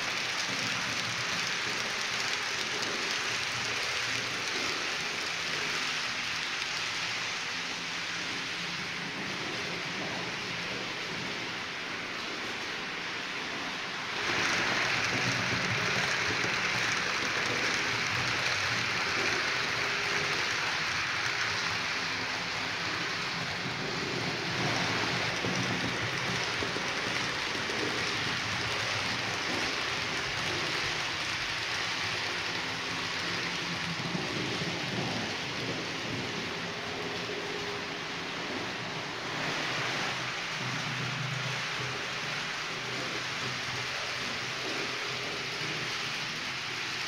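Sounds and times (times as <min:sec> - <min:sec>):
model train wheels hissing on rails: 0:00.0 - 0:47.0.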